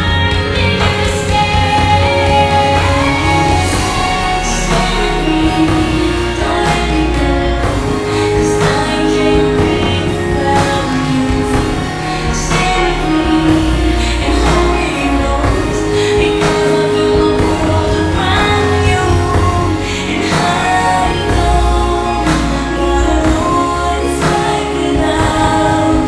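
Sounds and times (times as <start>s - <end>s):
steady bass line: 0.0s - 26.0s
sung vocal: 0.0s - 26.0s.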